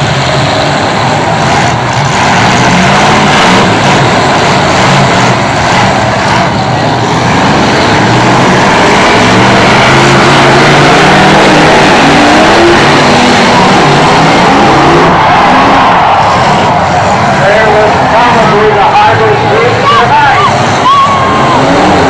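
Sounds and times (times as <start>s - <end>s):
many car engines revving: 0.0s - 22.0s.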